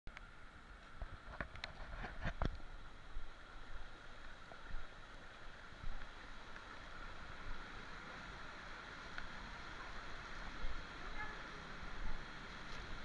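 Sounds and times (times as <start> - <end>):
waterfall and stream rushing: 0.3 - 13.0.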